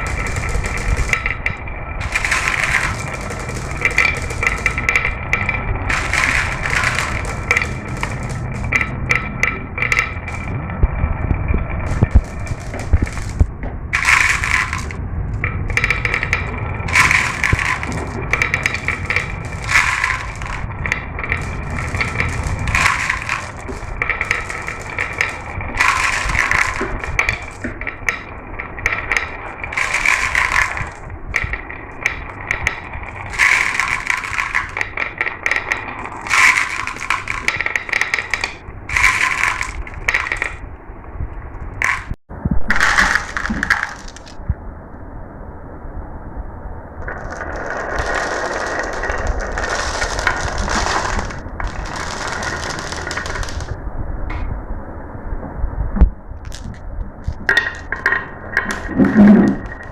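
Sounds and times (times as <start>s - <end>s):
marbles clinking and clattering: 0.0s - 40.7s, 41.7s - 44.4s, 47.0s - 53.8s, 56.4s - 59.9s
marbles rolling on track: 0.0s - 44.4s, 47.0s - 53.8s, 56.4s - 59.9s.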